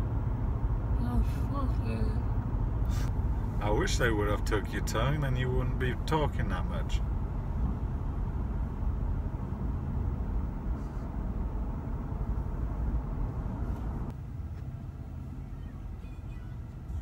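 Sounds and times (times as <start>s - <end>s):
road and engine rumble in vehicle: 0.0s - 17.0s.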